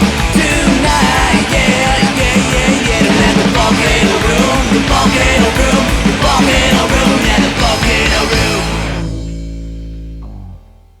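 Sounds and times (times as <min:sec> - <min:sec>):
rock band playing: 0:00.0 - 0:10.7.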